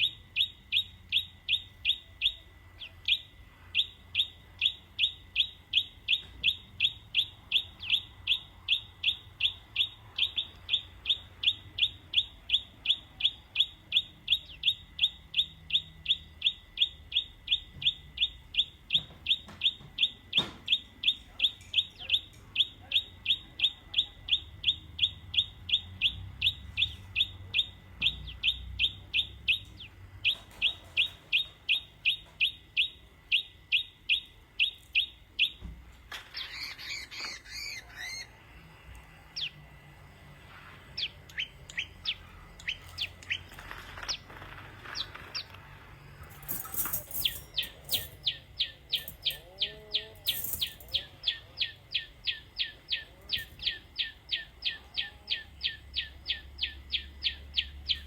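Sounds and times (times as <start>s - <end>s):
small bird chirping: 0.0s - 58.0s.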